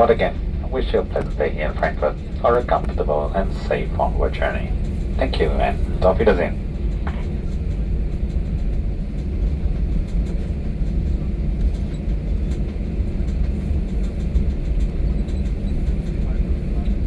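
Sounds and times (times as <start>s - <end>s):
jet engines idling in cabin: 0.0s - 17.0s.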